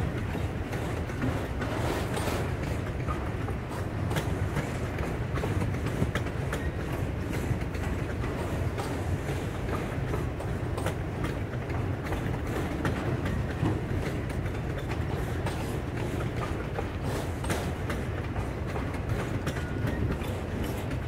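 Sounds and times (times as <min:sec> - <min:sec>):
train wheels rumbling on rail: 0:00.0 - 0:21.0
wheels clicking and clacking: 0:00.0 - 0:21.0.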